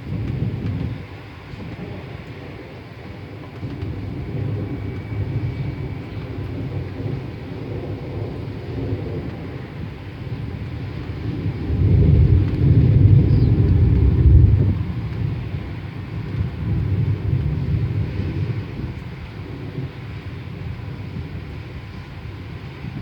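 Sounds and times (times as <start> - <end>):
thunder rumbling: 0.0 - 23.0.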